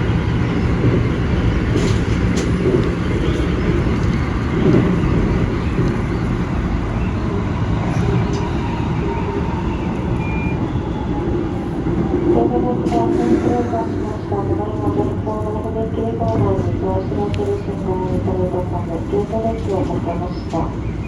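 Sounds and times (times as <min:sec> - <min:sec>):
train car low rumble: 0:00.0 - 0:21.0.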